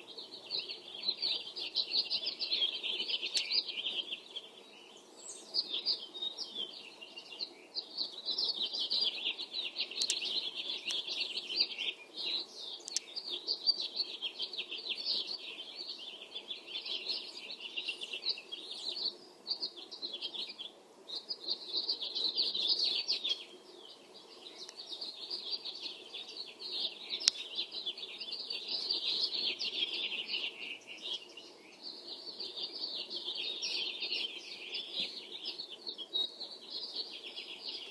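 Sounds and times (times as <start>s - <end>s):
small birds singing: 0.0s - 37.9s.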